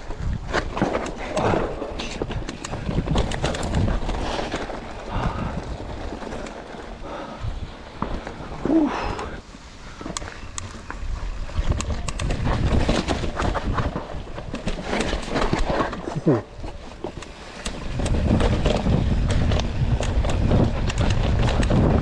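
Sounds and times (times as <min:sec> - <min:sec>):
wind buffeting microphone: 0:00.0 - 0:09.4, 0:10.5 - 0:15.0, 0:17.7 - 0:22.0
bike rattling and clicking: 0:00.0 - 0:22.0.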